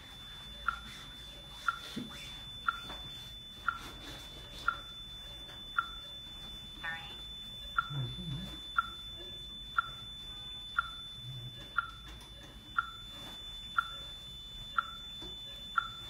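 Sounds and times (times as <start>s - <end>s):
short electronic beeps: 1.6s - 16.0s.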